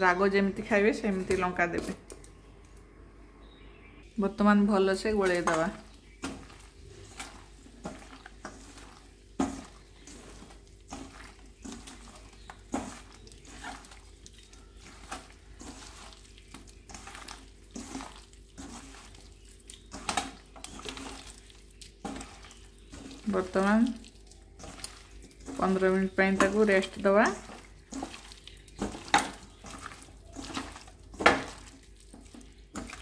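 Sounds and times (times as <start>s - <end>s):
wet squelching of mixing meat: 4.0s - 33.0s.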